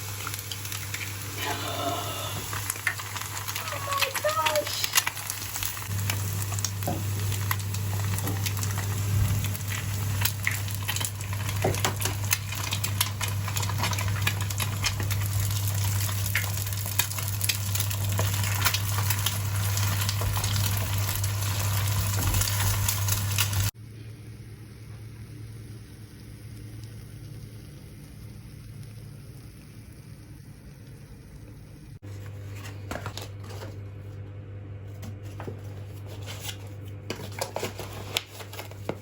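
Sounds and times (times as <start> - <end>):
food sizzling in frying pan: 0.0 - 32.0.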